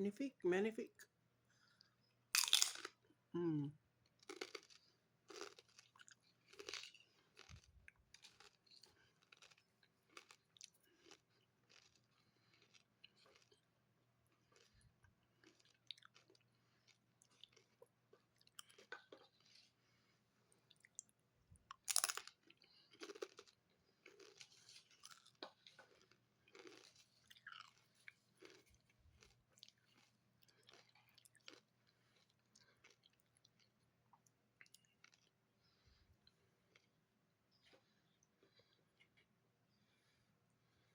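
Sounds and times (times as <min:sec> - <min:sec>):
chewing crunchy chips: 0:01.6 - 0:03.1, 0:04.0 - 0:39.3.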